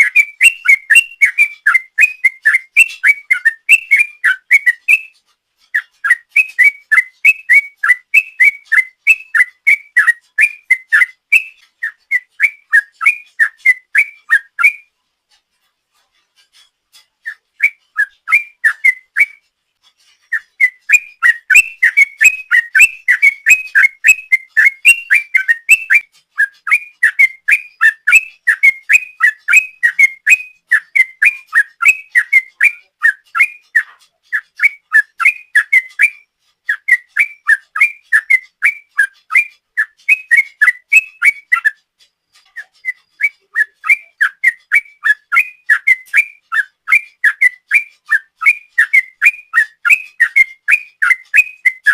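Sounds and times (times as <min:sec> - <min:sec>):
bird singing bubbly whistles: 0:00.0 - 0:05.1, 0:05.7 - 0:14.8, 0:17.2 - 0:19.4, 0:20.3 - 0:41.8, 0:42.6 - 0:51.9.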